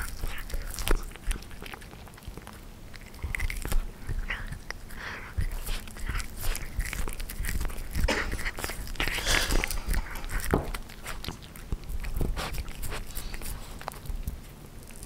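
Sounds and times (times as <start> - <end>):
cat chewing on a bone: 0.0 - 15.0.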